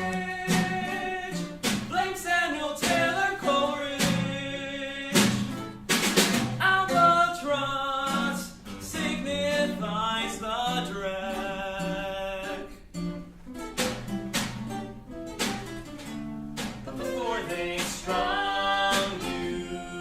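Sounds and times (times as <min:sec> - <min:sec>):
small ensemble playing: 0:00.0 - 0:20.0.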